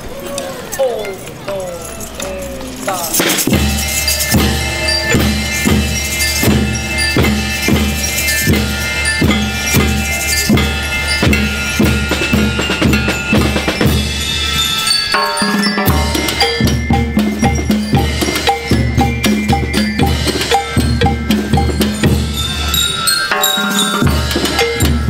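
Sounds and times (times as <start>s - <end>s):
drum kit beating: 2.8s - 25.0s.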